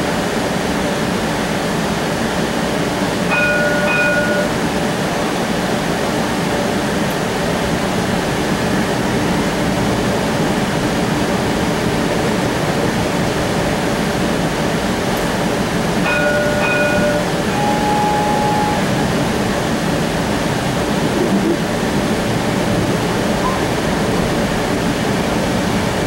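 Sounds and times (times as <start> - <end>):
streetcar wheels and motors rumbling: 0.0 - 26.0.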